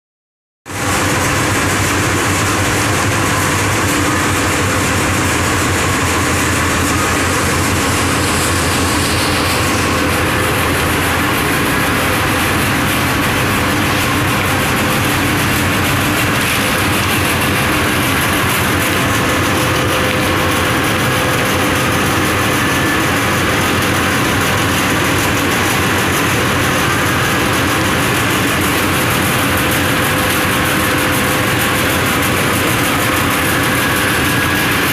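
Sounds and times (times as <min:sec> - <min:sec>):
dryer machine drone: 0:00.7 - 0:34.9.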